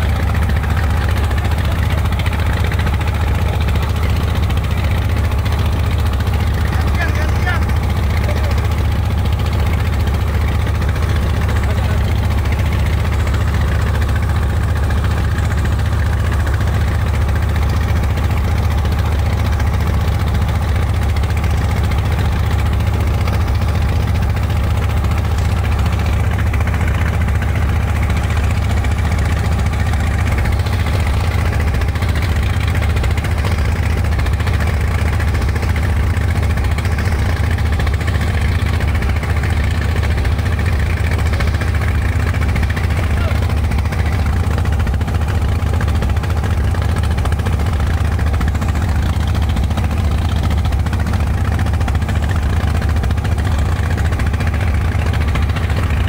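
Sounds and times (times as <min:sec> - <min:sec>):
motorboat engine droning: 0:00.0 - 0:56.0.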